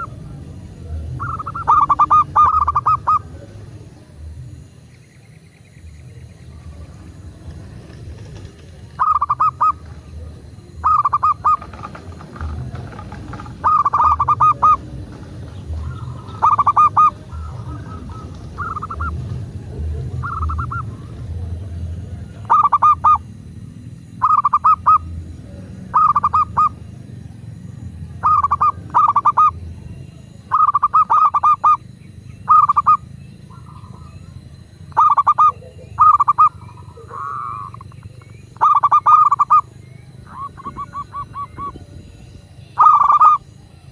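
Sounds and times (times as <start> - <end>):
dove cooing: 0.0 - 4.6, 6.5 - 43.9
low steady rumble: 0.0 - 43.9.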